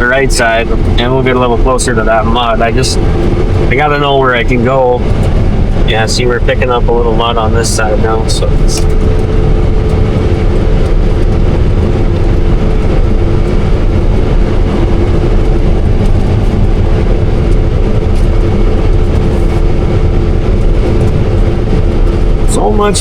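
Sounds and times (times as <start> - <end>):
combine harvester droning: 0.0 - 23.0
constant machine whine: 0.0 - 23.0.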